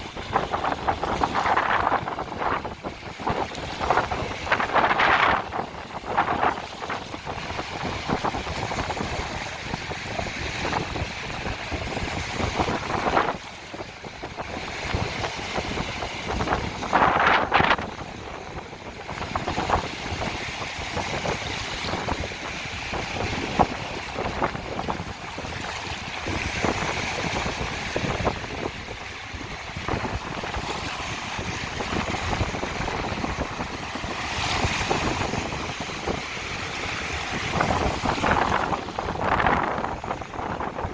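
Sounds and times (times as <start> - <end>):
small waves washing onto shore: 0.0 - 40.9
wind buffeting microphone: 0.0 - 40.9.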